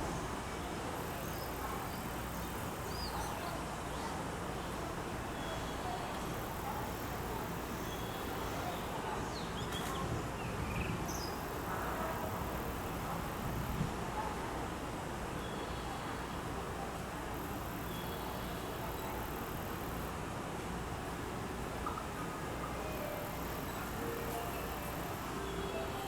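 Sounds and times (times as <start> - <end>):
railway platform background noise: 0.0 - 26.0.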